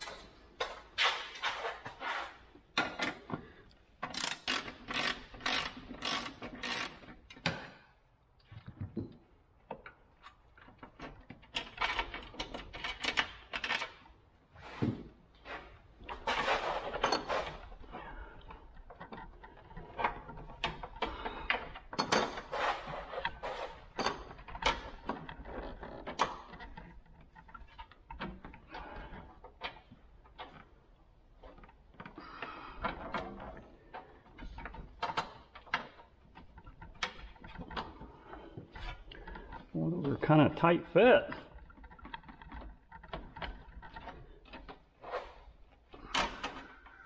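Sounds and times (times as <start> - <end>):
metal parts clicking and scraping: 0.0 - 7.6, 9.7 - 14.1, 15.4 - 40.4, 41.0 - 47.0.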